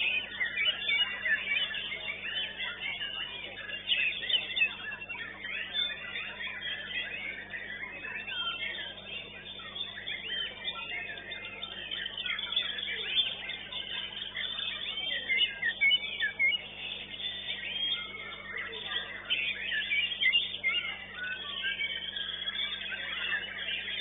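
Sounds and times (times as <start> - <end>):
songbird singing whistled phrases: 0.0 - 24.0.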